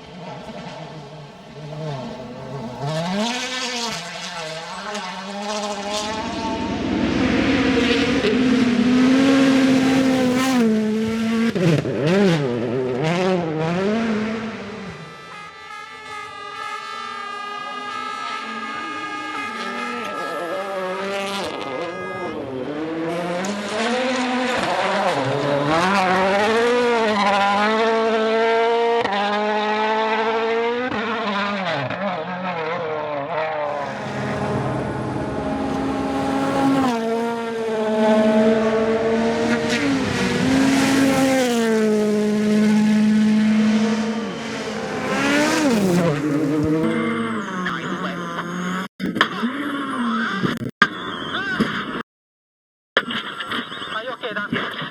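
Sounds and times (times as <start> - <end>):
rally car engines revving: 0.0 - 51.8.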